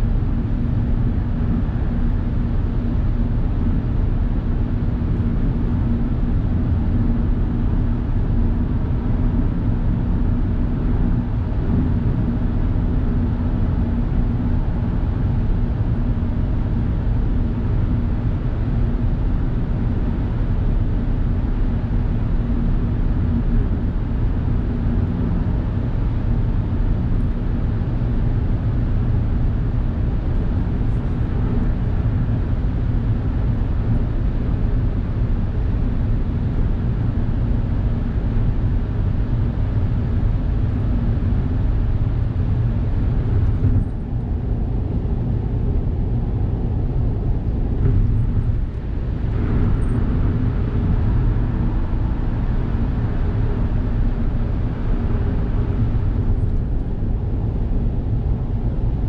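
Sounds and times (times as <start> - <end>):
car tyre and engine rumble: 0.1 - 59.0.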